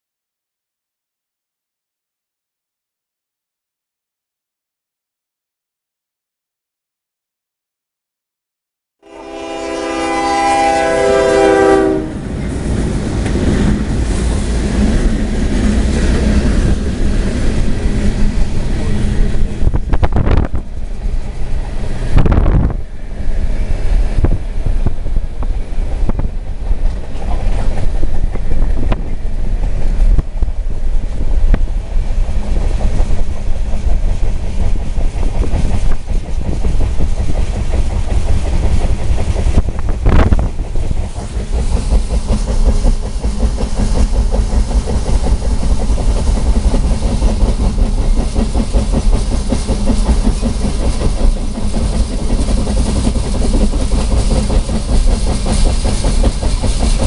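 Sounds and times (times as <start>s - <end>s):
freight train rumble and wheel clatter: 9.0s - 57.0s.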